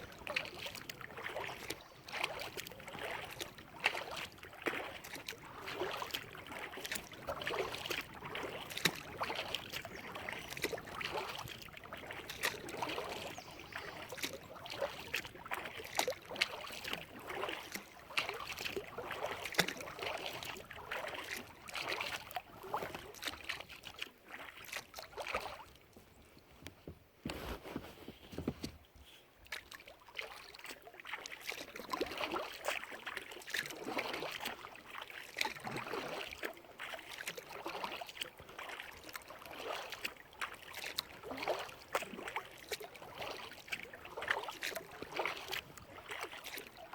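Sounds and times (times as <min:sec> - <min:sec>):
paddle splashing in water: 0:00.0 - 0:46.9.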